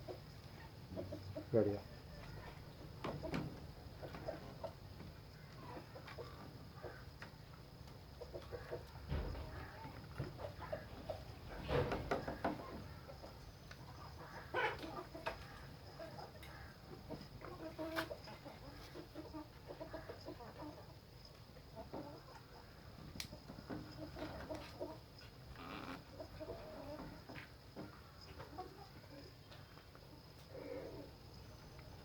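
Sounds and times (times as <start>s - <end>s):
chickens clucking softly: 0.0s - 32.0s.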